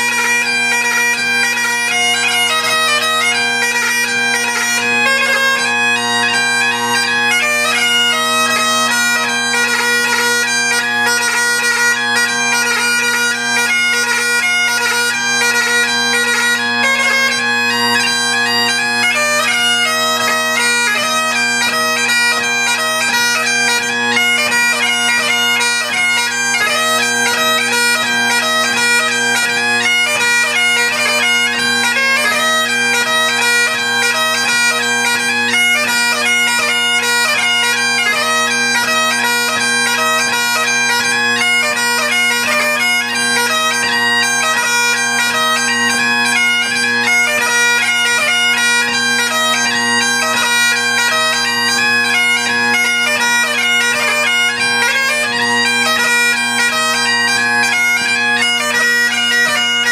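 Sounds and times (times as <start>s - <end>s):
bagpipe playing a hornpipe: 0.0s - 59.9s.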